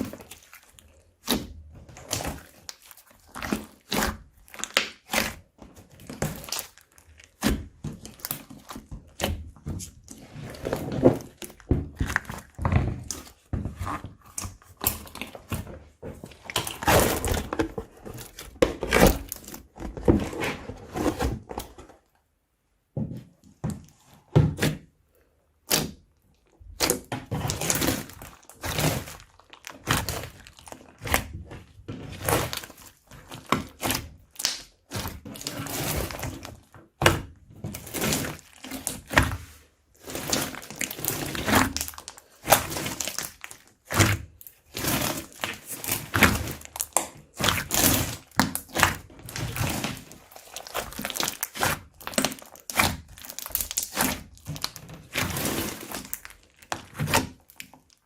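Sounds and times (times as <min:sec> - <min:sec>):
slime crackling and popping: 0:00.0 - 0:15.6, 0:16.3 - 0:19.8, 0:25.6 - 0:58.0.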